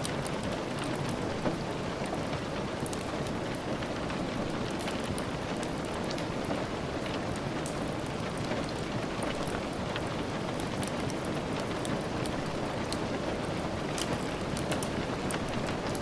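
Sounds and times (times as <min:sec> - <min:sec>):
rain falling hiss: 0:00.0 - 0:16.0
raindrop ticks: 0:00.0 - 0:16.0.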